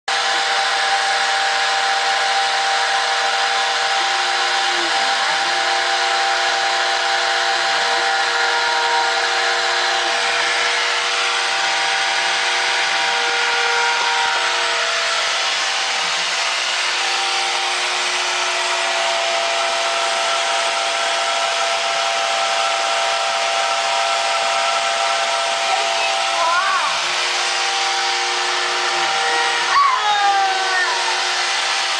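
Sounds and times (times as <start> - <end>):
machine whining tones: 0.1 - 31.9
mill cutting noise: 0.1 - 31.9.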